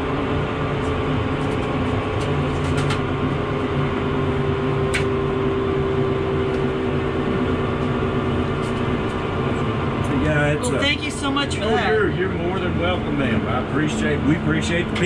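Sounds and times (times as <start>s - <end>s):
helicopter turbine hum: 0.0s - 15.0s.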